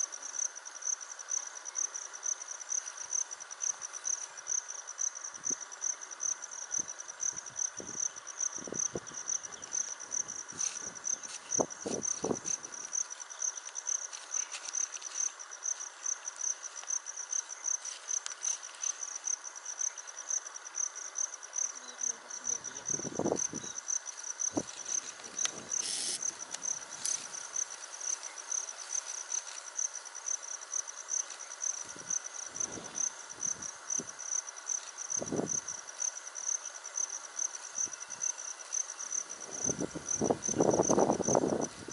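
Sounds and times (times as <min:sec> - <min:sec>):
insect trilling: 0:00.0 - 0:41.9.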